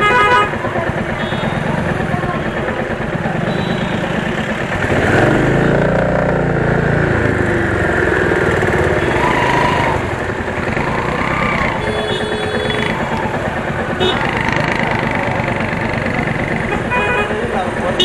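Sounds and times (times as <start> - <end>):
motorcycle engine running: 0.0 - 18.0
street noise: 0.0 - 18.0.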